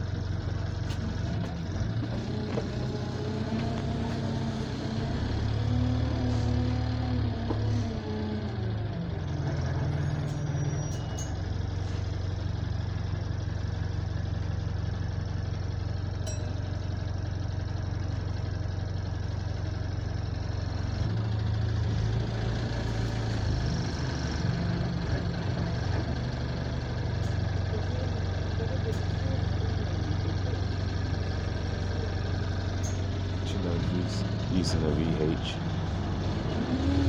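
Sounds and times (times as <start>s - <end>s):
bus diesel engine drone: 0.0s - 37.0s.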